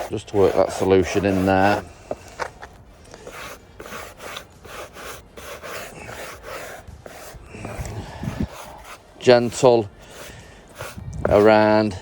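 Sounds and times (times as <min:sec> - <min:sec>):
brush scrubbing carpet mat: 0:00.0 - 0:02.6, 0:03.2 - 0:12.0.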